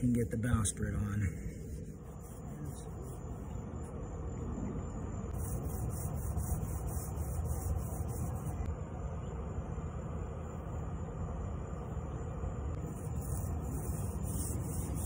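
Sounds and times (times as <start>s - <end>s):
faint pulsing high hiss: 0.0s - 15.0s.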